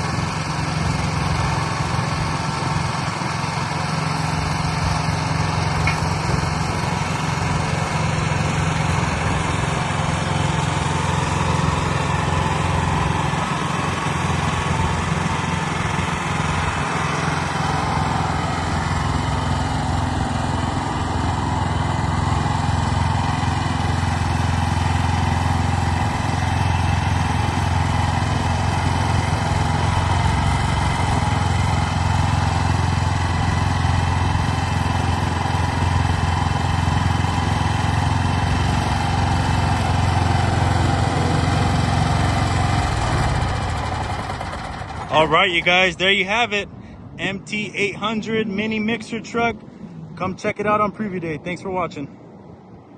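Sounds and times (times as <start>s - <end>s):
mixer truck engine running: 0.0s - 52.0s.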